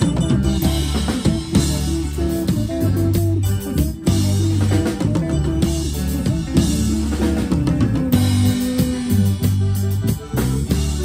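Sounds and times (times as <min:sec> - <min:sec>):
bass line: 0:00.0 - 0:11.0
drum kit: 0:00.0 - 0:11.0
guitar: 0:00.0 - 0:11.0
keyboard: 0:00.0 - 0:11.0.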